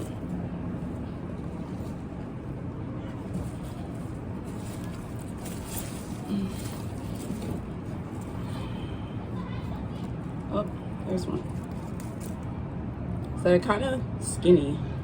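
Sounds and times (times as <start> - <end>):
hands rummaging through soil: 0.0 - 12.5
steady low rumble: 0.0 - 14.2.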